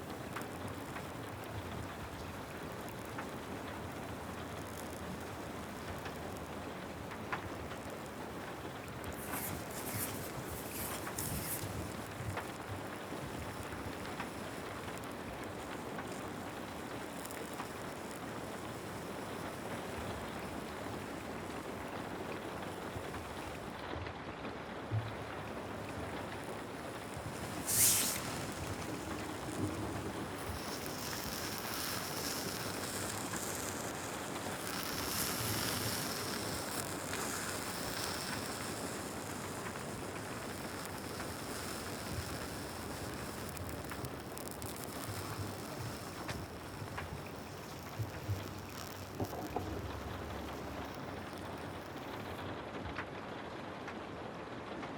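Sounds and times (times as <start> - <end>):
short sharp hiss: 0.0 - 23.7, 24.8 - 52.4
rain falling: 0.0 - 23.9, 24.5 - 52.8.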